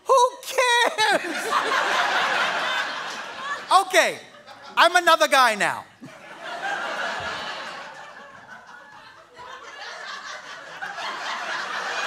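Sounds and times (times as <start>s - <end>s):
audience laughing: 0.6s - 5.1s, 6.0s - 12.0s.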